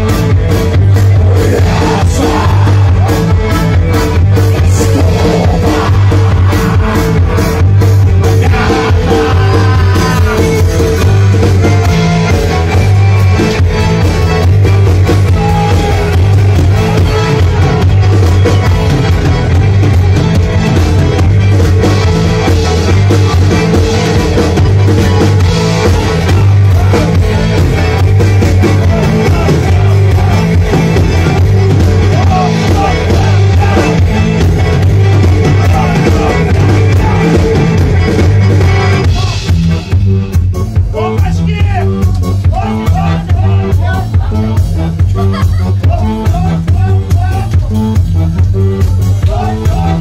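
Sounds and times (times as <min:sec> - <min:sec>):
bass guitar: 0:00.0 - 0:50.0
drum kit: 0:00.0 - 0:50.0
electric guitar: 0:00.0 - 0:50.0
folk-rock band playing: 0:00.0 - 0:50.0.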